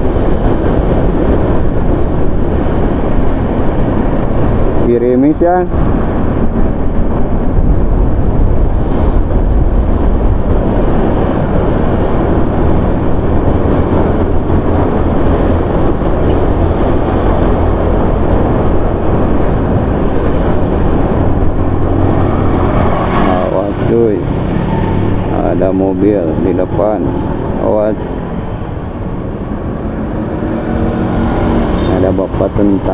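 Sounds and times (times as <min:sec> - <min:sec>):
low engine hum: 0:00.0 - 0:32.9
wind and road noise: 0:00.0 - 0:32.9.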